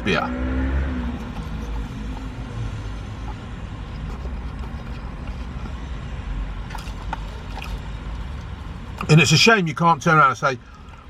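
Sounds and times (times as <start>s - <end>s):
low rumble of vehicle: 0.0s - 11.0s.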